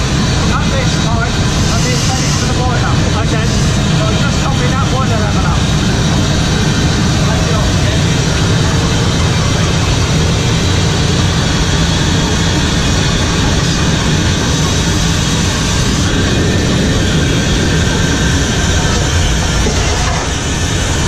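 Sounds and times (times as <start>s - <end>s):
steam locomotive rumbling on rails: 0.0s - 21.0s.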